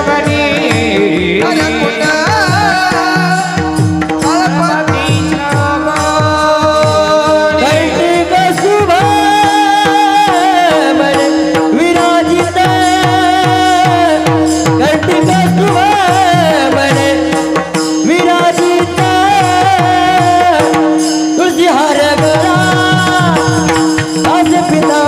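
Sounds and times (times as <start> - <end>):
hand drum beating: 0.0 - 25.0.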